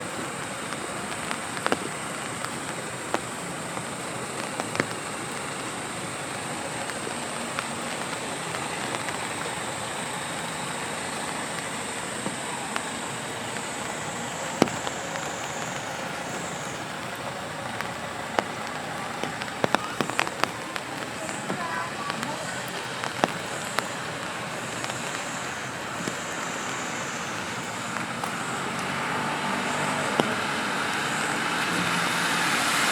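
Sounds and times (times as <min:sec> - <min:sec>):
heavy raindrops tapping: 0:00.0 - 0:32.9
rain falling on street: 0:00.0 - 0:32.9
thin high whine: 0:00.0 - 0:32.9.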